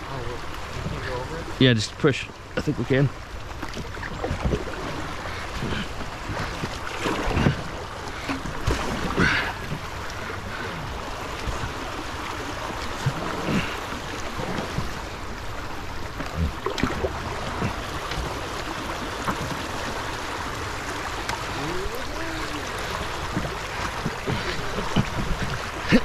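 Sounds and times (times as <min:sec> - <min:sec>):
water sloshing around boat: 0:00.0 - 0:26.0.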